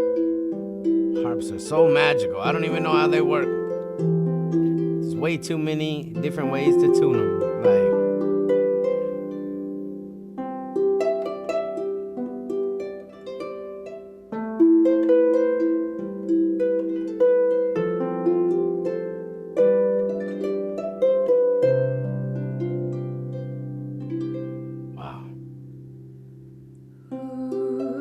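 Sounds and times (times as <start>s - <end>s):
harp playing: 0.0s - 28.0s.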